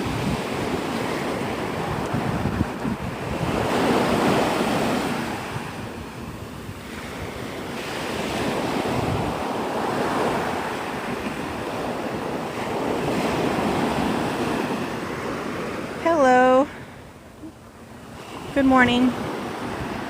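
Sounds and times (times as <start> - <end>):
wind buffeting microphone: 0.0 - 16.0, 16.7 - 20.0
surf breaking on beach: 0.0 - 16.6.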